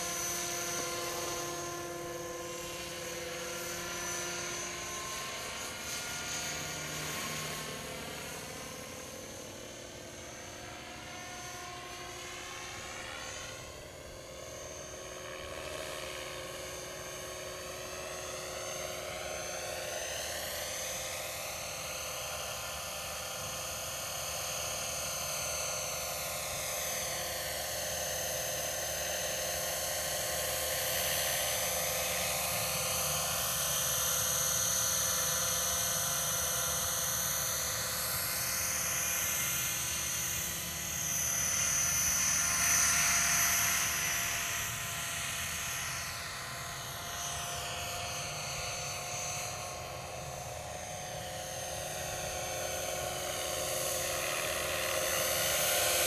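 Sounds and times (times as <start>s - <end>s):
model helicopter whine: 0.0s - 56.0s.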